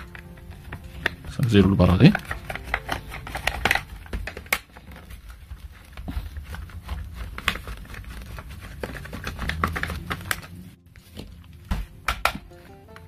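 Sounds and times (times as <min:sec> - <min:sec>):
plastic case being handled: 0:00.0 - 0:13.0.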